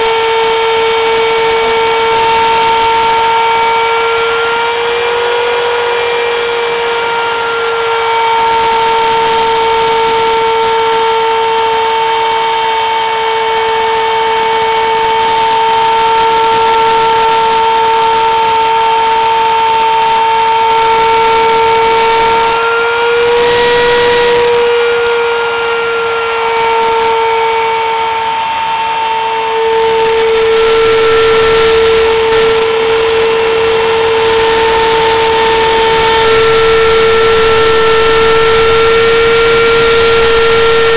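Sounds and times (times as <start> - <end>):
bit cutting wood: 0.0 - 40.9
router spindle high-pitched whine: 0.0 - 40.9.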